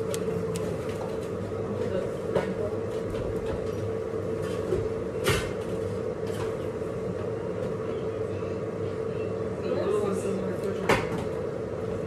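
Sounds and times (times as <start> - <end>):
steady hum: 0.0 - 10.6.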